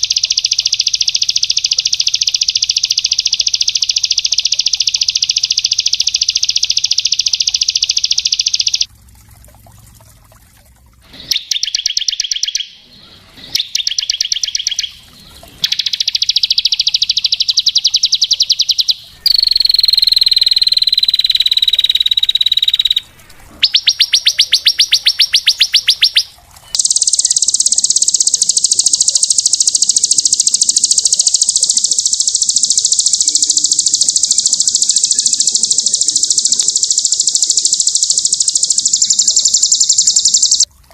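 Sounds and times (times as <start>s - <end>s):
songbird trilling: 0.0s - 8.9s, 11.2s - 40.7s.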